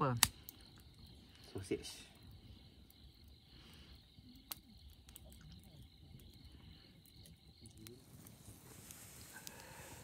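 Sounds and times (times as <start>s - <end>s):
insects chirring: 0.0s - 10.0s
wood fire crackling: 0.0s - 10.0s.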